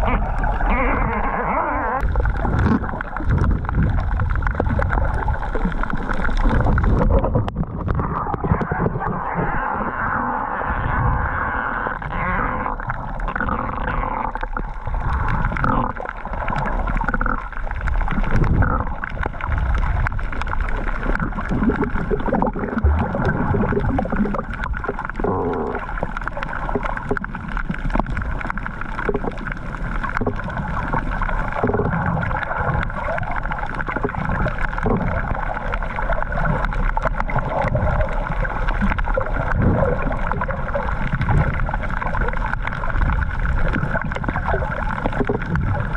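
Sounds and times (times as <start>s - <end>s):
low rumbles: 0.0s - 45.9s
underwater gurgling and sloshing: 0.0s - 45.9s.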